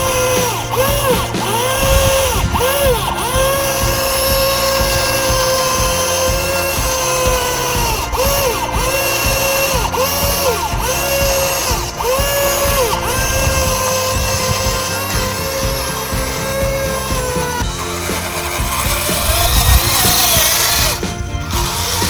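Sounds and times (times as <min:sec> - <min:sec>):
small electric gear motors whining: 0:00.0 - 0:22.0.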